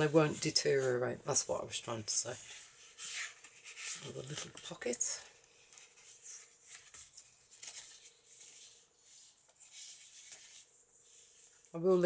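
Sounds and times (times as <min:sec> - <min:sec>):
paper pages rustling: 0:00.0 - 0:11.8.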